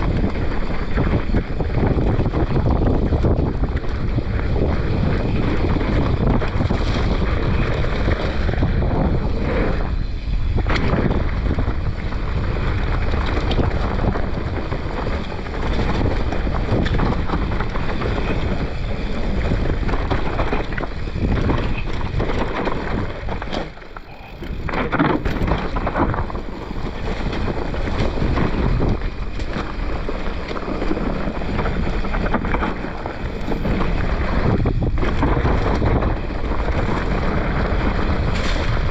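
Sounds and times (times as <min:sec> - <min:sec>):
bike rattling over rough trail: 0:00.0 - 0:38.9
wind buffeting microphone: 0:00.0 - 0:38.9.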